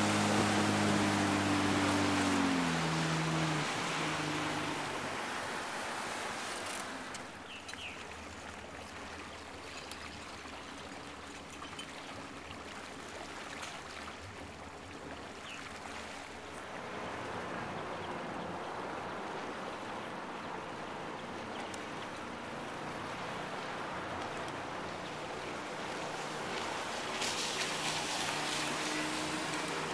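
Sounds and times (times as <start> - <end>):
water rushing along boat hull: 0.0 - 29.9.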